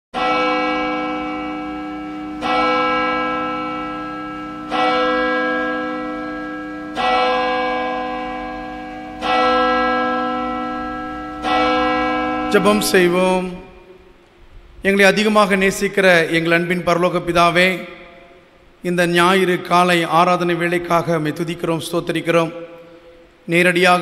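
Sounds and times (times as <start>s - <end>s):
church bell tolling: 0.2s - 23.5s.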